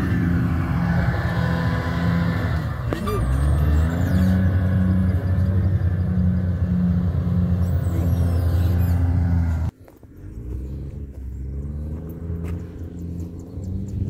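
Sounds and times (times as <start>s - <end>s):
diesel engine running under load: 0.0s - 14.0s
quieter engine with wavering pitch: 0.0s - 14.0s.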